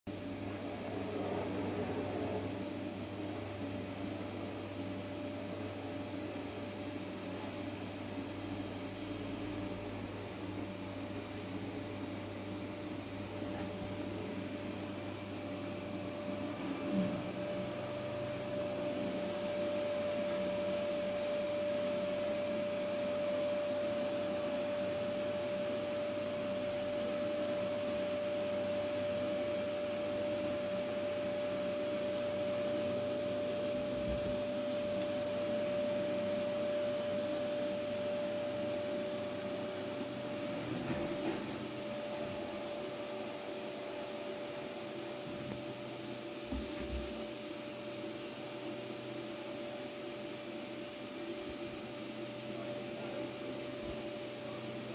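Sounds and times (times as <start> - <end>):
machine whirring and whining: 0.2 - 54.9.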